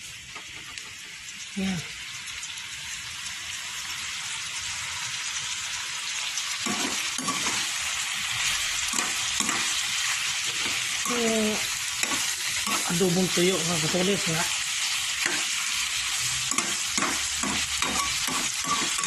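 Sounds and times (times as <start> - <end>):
meat sizzling in a pan: 0.0 - 19.0.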